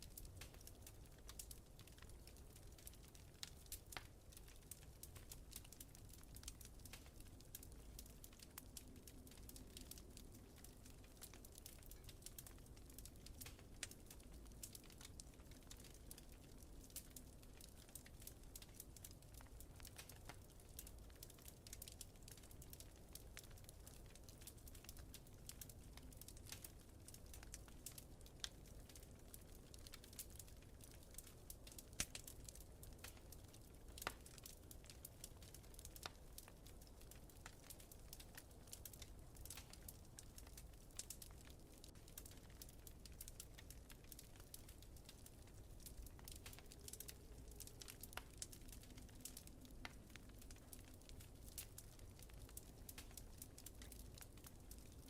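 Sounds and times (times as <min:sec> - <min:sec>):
wood fire crackling faintly: 0:00.0 - 0:55.0.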